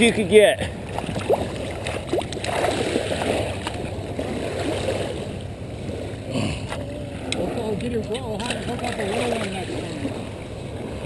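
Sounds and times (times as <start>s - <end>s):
water splashing: 0.6s - 11.0s
waves washing over pebbles: 0.9s - 6.2s, 7.2s - 11.0s.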